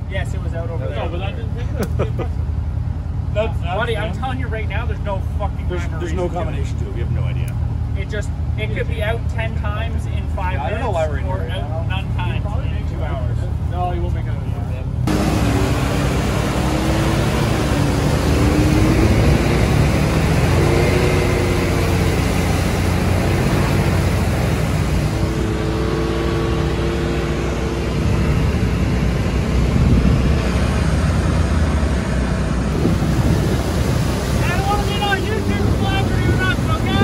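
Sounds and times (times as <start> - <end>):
off-road vehicle engine: 0.0 - 37.0.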